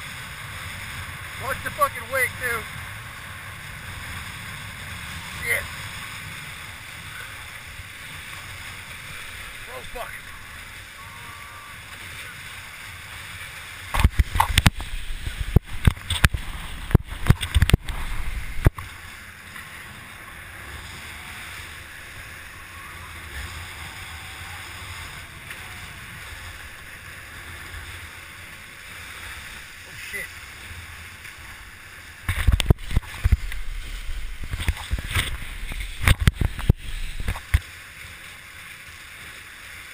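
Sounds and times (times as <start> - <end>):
rush of wind and water: 0.0 - 39.9.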